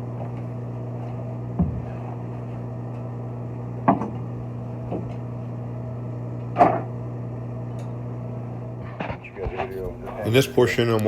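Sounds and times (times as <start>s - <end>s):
motor-like hum: 0.0s - 11.0s.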